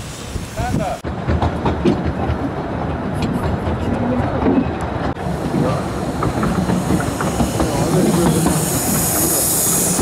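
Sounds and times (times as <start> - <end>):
train wheels clattering on rails: 1.0 - 10.0.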